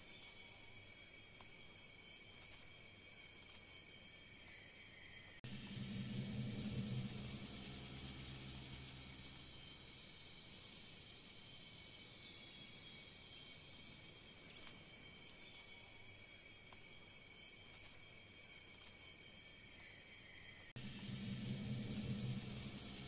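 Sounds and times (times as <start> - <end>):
insect chirps: 0.0 - 23.0
insect chorus trilling: 0.0 - 23.0.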